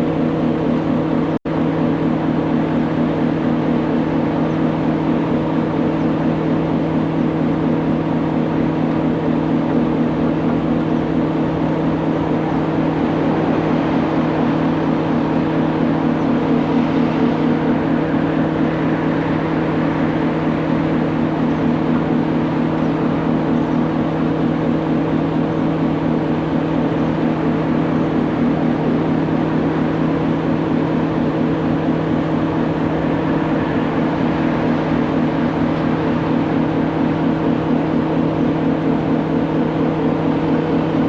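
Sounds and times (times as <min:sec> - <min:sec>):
heavy truck engine running: 0:00.0 - 0:41.0.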